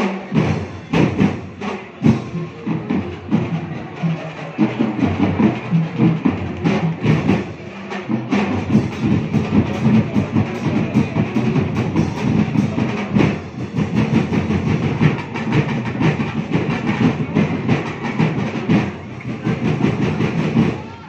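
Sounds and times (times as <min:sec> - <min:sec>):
drum and percussion ensemble: 0:00.0 - 0:21.0.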